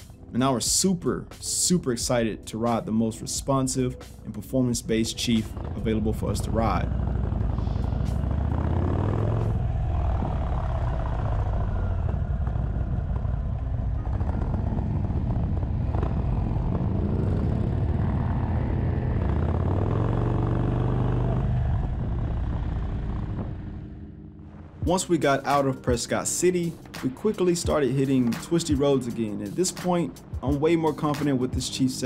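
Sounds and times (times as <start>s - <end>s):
motorcycle engine accelerating: 4.3s - 32.0s.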